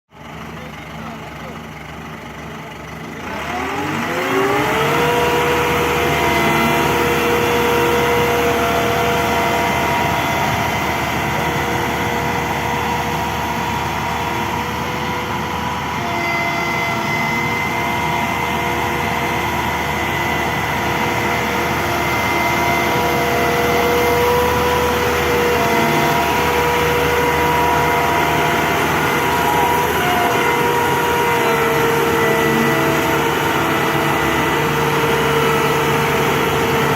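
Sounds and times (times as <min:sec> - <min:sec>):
hydraulic pump whining: 0:00.2 - 0:36.9.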